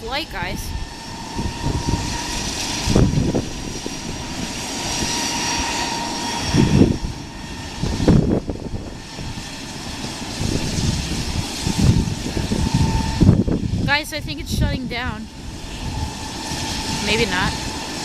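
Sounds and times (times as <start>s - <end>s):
jet engines idling whine: 0.0s - 18.0s.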